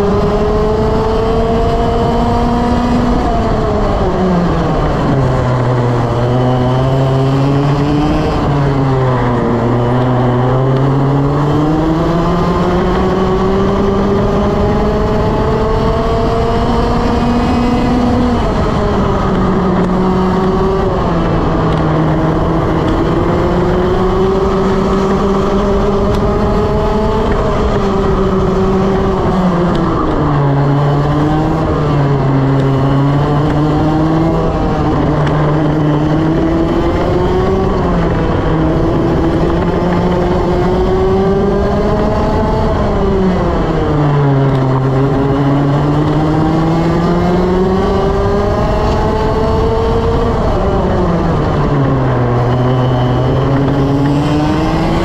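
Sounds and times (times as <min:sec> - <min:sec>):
kart engine racing: 0:00.0 - 0:55.0.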